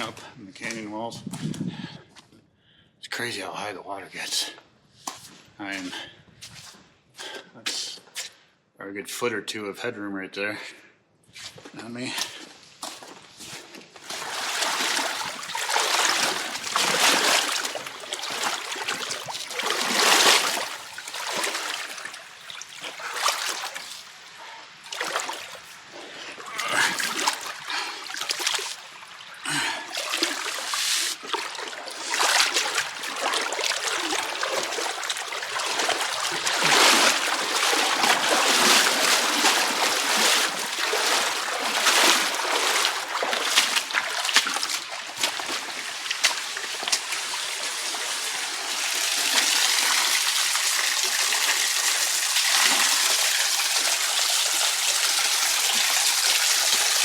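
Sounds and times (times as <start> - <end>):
person wading through water: 11.4 - 57.0.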